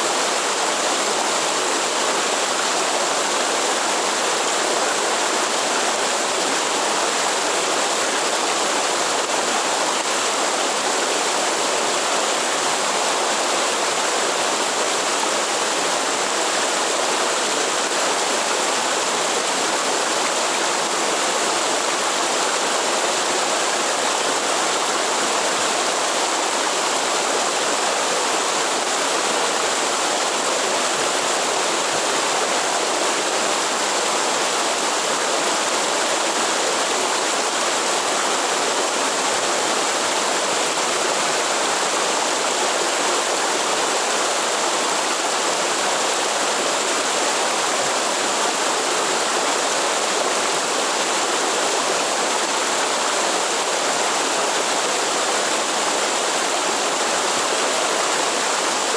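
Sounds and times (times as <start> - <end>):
rushing water: 0.0 - 58.9.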